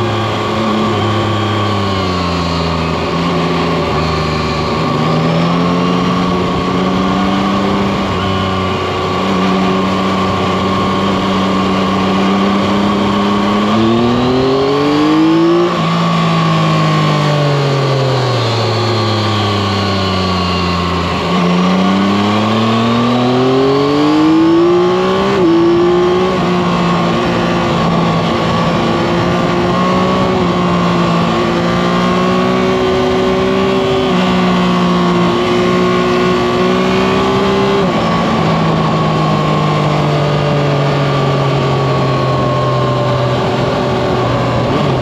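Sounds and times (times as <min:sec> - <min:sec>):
motorcycle engine accelerating: 0:00.0 - 0:45.0
wind noise: 0:00.0 - 0:45.0.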